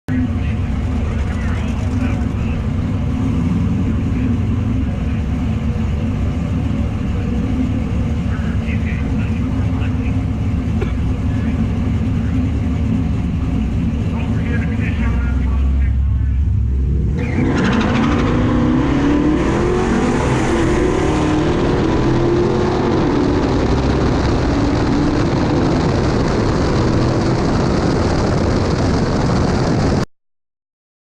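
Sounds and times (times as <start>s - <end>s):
engine full-throttle launch: 0.1s - 30.1s
road and wind noise: 0.1s - 30.1s.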